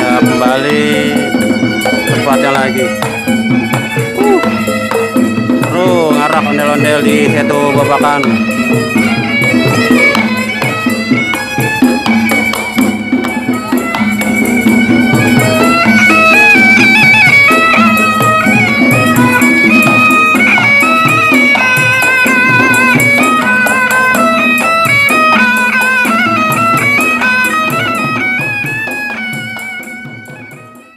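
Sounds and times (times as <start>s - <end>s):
drums: 0.0s - 30.9s
high wavering melody: 0.0s - 30.9s
jingling percussion: 0.0s - 30.9s.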